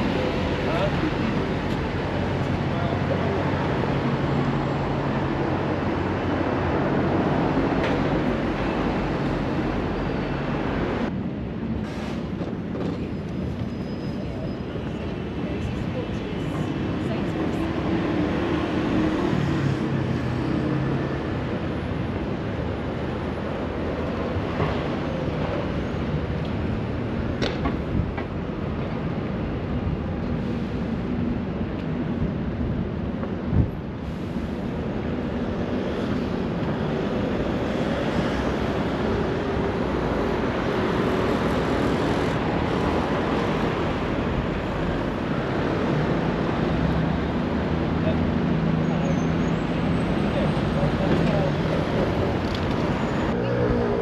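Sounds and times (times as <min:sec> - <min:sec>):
passing cars and buses: 0:00.0 - 0:54.0.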